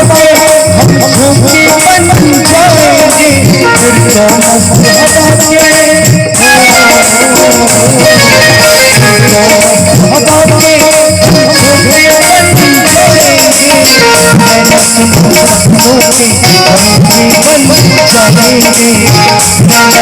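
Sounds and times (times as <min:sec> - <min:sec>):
tabla rhythm: 0:00.0 - 0:20.0.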